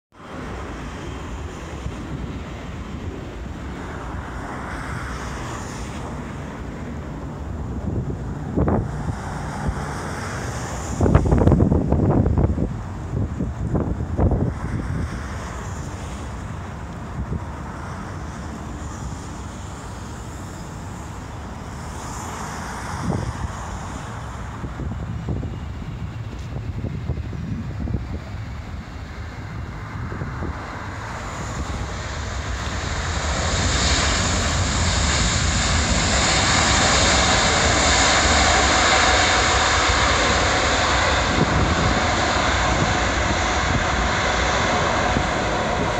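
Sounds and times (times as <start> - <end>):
distant jet roar: 0.1 - 45.9
road traffic noise: 0.1 - 45.9
wind buffeting microphone: 0.2 - 45.9.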